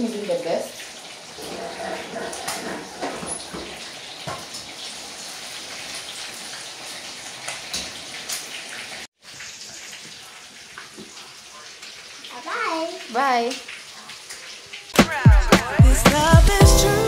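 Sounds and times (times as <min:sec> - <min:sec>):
chicken deep-frying in hot oil: 0:00.0 - 0:15.8.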